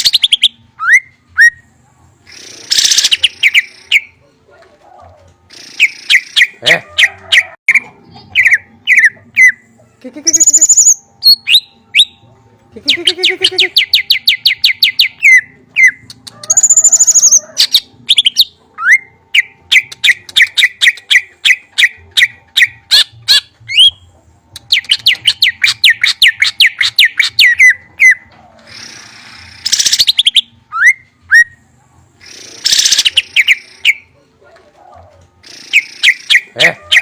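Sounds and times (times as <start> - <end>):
songbird chirping rapidly: 2.3 - 4.2, 5.5 - 12.2, 12.8 - 24.0, 24.6 - 31.6, 32.2 - 34.1, 35.4 - 37.0.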